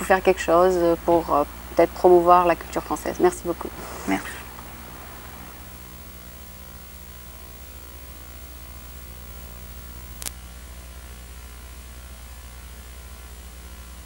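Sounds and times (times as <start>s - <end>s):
electrical mains hum with hiss: 0.0s - 14.0s.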